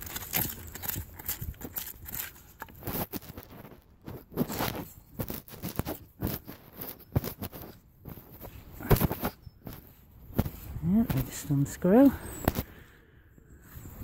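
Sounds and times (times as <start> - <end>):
gritty scraping and crunching clicks: 0.0 - 12.9.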